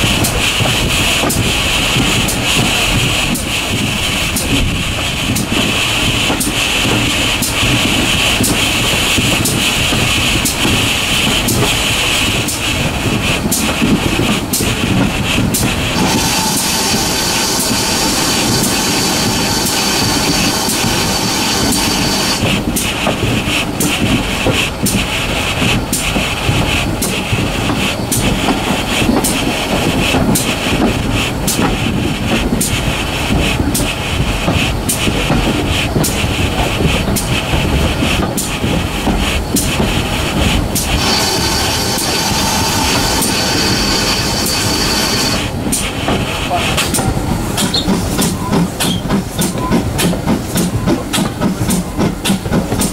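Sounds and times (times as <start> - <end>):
train running noise: 0.0 - 52.9
wheels clicking over rail joints: 0.0 - 52.9.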